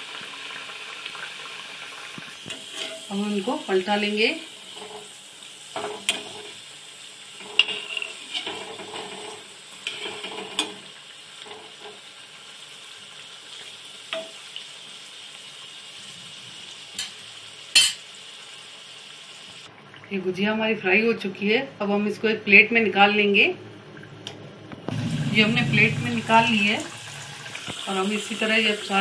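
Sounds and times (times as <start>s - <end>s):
pastries sizzling in hot oil: 0.0s - 19.7s, 24.9s - 29.0s.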